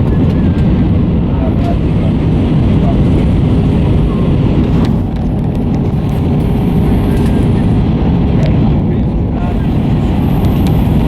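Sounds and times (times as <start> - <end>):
airplane cabin engine roar: 0.0 - 11.0.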